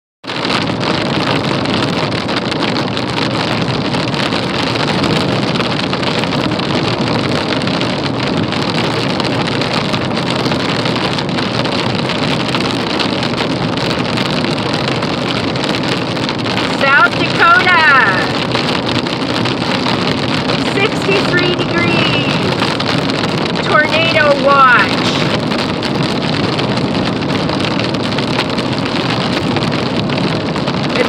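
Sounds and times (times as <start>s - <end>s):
vehicle wind and tyre noise: 0.2s - 31.0s.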